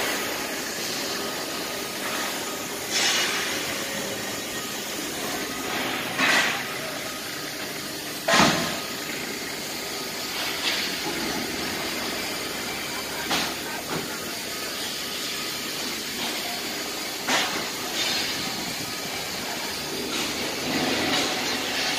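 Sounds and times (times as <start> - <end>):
mechanical running noise: 0.0 - 21.9.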